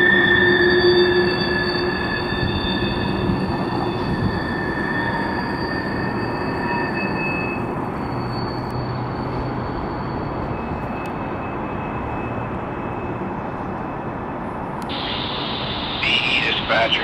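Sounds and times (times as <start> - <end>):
train rumble: 0.0 - 17.0
train wheels squealing on rail: 0.0 - 17.0.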